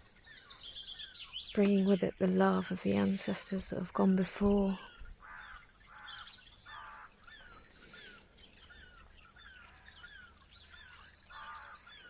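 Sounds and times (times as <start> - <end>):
buzzy bird calls: 0.0 - 12.0
faint birds chirping: 0.0 - 12.0.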